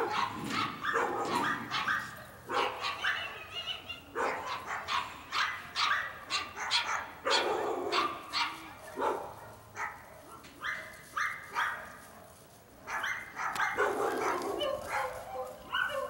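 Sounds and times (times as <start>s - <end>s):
dog barking rapidly: 0.0s - 3.4s, 4.2s - 10.0s, 10.6s - 12.0s, 12.9s - 16.0s.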